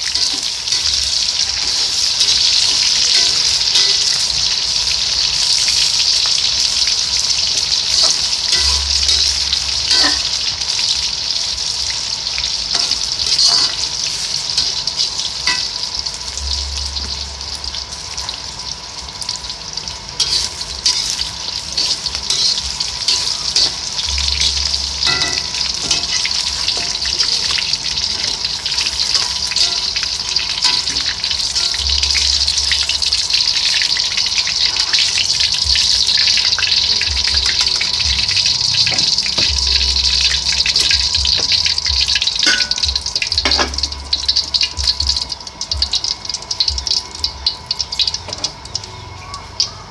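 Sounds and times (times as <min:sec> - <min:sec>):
food sizzling in hot oil: 0:00.0 - 0:49.9.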